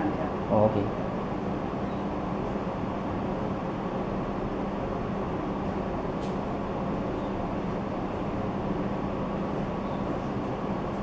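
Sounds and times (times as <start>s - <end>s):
room noise hum: 0.0s - 11.0s.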